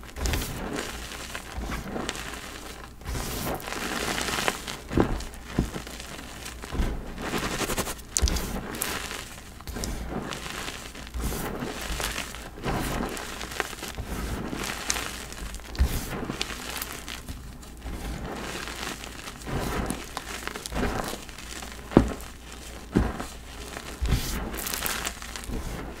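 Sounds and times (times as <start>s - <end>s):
chalk cracking: 0.0s - 26.0s
chalk crunching and crumbling: 0.0s - 26.0s.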